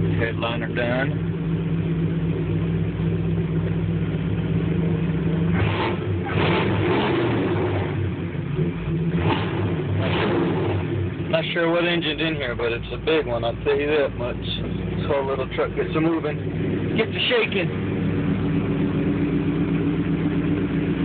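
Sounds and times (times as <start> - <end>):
truck engine idling and revving: 0.0 - 21.0.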